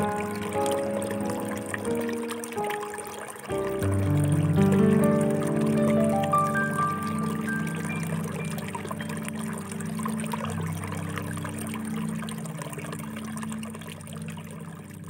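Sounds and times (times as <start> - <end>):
soft background music: 0.0 - 15.0
water pouring and trickling: 0.0 - 15.0.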